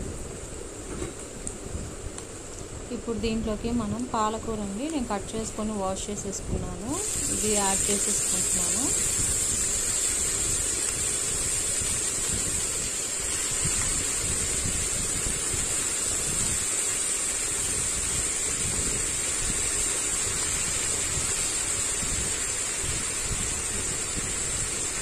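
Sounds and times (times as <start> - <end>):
spinach sizzling in hot oil: 2.9 - 25.0.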